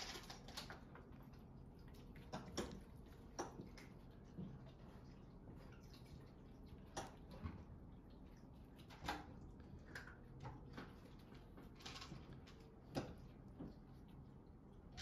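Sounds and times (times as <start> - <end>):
faint clicks and taps: 0.0 - 15.0.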